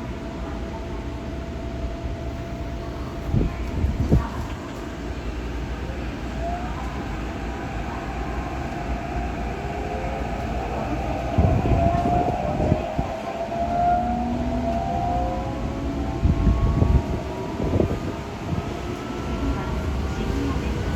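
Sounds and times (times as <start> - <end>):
subway train running: 0.0 - 20.9.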